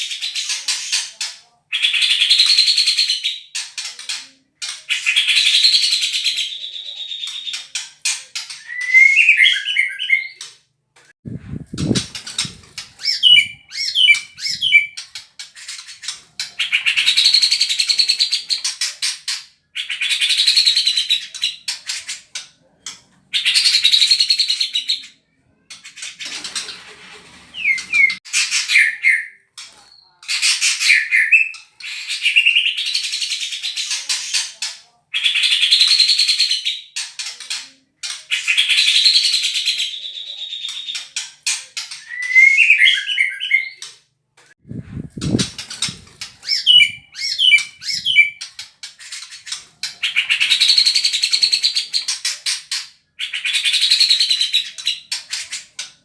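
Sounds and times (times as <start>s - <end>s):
songbird singing rattling phrases: 0.0s - 10.5s, 11.4s - 22.4s, 23.3s - 43.9s, 44.6s - 55.8s.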